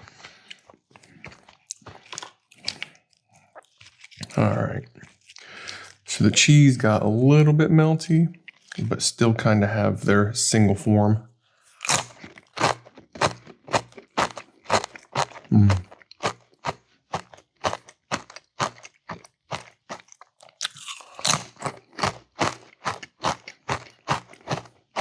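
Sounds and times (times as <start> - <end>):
crackers being chewed: 0.0 - 7.6, 8.4 - 9.0, 11.6 - 25.0.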